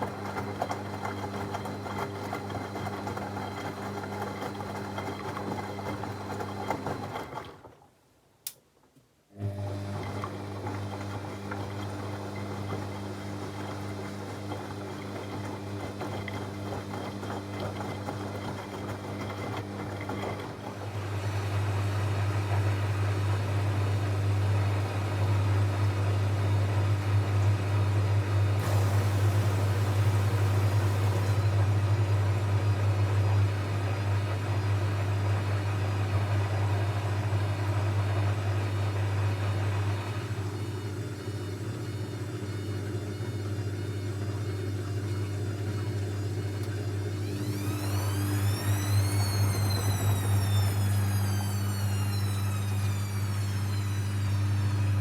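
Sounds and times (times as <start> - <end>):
washing machine motor hum: 0.0 - 7.7, 9.4 - 55.0.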